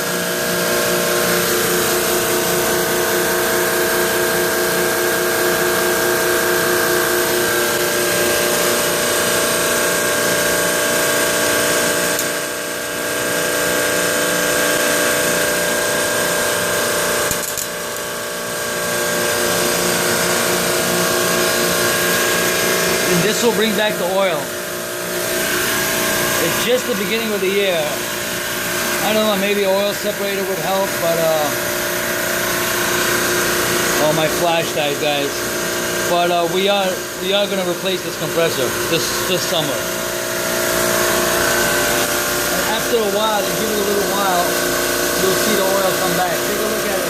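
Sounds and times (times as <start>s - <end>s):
refrigeration compressor humming: 0.0s - 47.0s.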